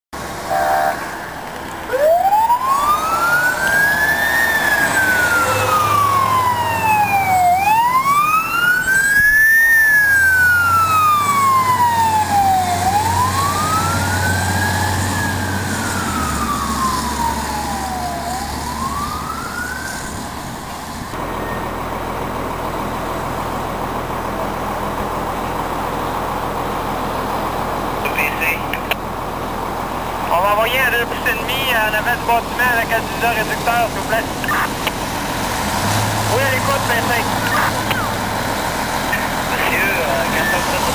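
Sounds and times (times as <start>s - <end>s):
truck engine and road noise: 0.1s - 40.9s
fire truck siren wailing: 0.2s - 40.9s.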